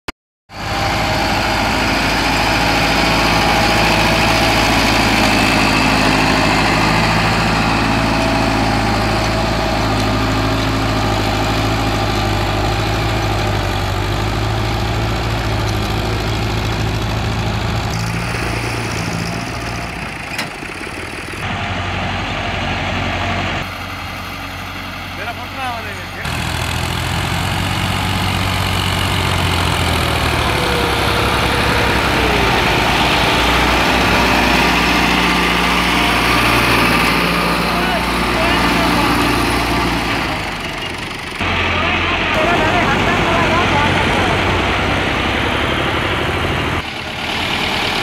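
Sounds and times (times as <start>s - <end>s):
tractor diesel engine running: 0.5s - 48.0s.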